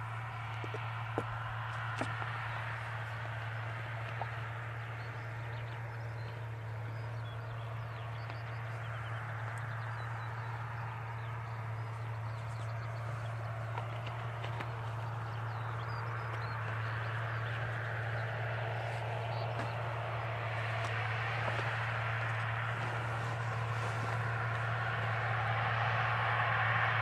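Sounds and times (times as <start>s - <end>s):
distant tractor engine droning: 0.0s - 27.0s.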